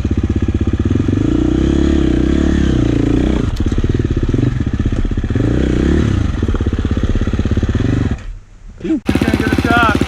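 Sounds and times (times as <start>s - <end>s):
dirt bike engine revving: 0.0s - 8.4s, 9.0s - 10.0s.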